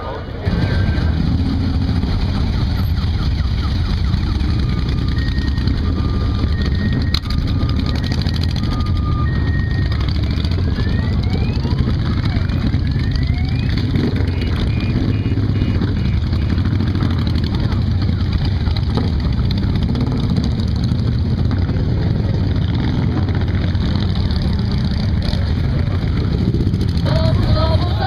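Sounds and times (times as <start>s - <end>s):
motorcycle engines rumbling: 0.0s - 28.0s
motorcycles revving: 0.0s - 28.0s.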